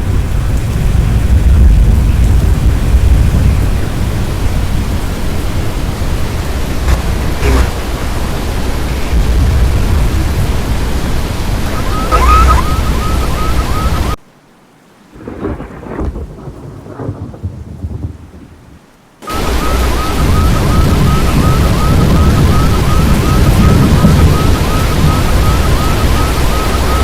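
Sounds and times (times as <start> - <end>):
storm wind and rain: 0.0 - 27.0.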